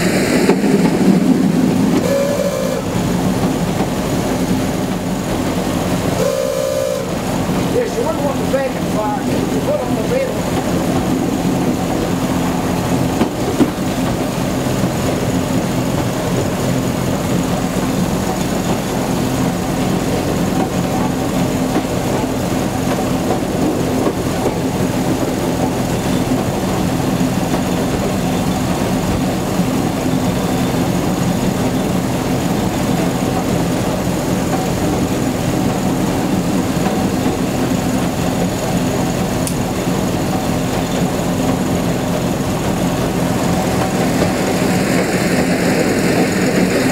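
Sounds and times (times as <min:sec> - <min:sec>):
railcar engine running: 0:00.0 - 0:46.9.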